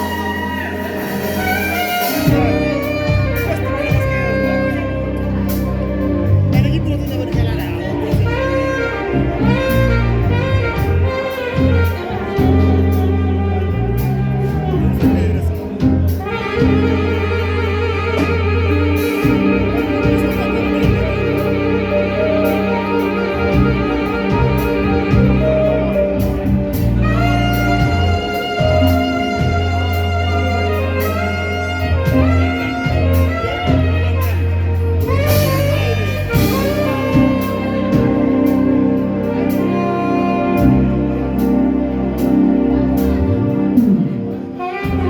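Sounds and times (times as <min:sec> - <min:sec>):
low bass line: 0:00.0 - 0:45.0
saxophone melody: 0:00.0 - 0:45.0.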